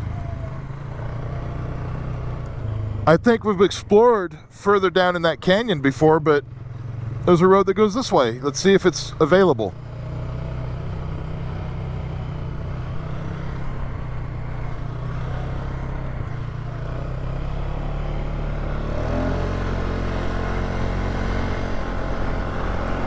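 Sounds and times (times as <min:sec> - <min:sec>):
atv engine running: 0:00.0 - 0:23.0
wind and tyre noise: 0:00.0 - 0:23.0.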